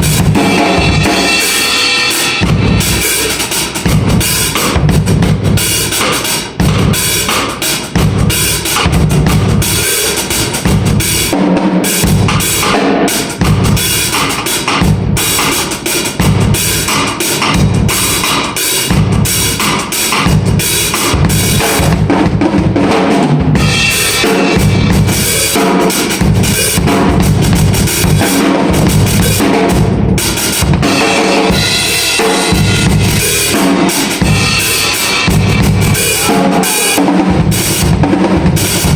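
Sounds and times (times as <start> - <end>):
cymbals: 0.0 - 22.0, 23.6 - 38.9
bass drum: 0.0 - 38.9
snare drum: 0.0 - 38.9.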